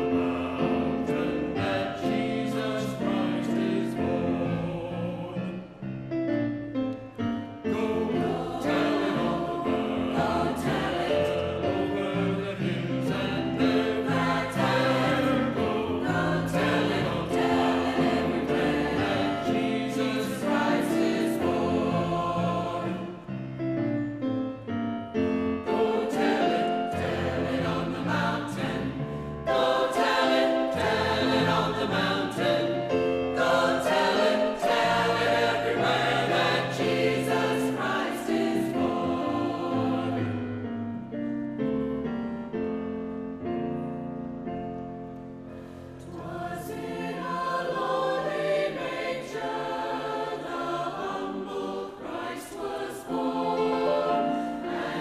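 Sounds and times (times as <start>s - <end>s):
choir singing: 0.0s - 5.9s, 7.1s - 23.6s, 25.2s - 41.3s, 45.6s - 55.0s.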